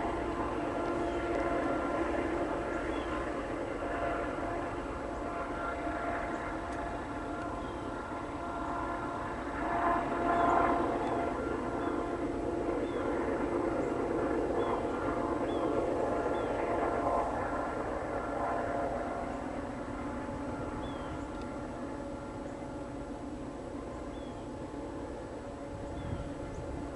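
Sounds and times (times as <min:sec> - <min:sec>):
diesel locomotive screaming drone: 0:00.0 - 0:26.9.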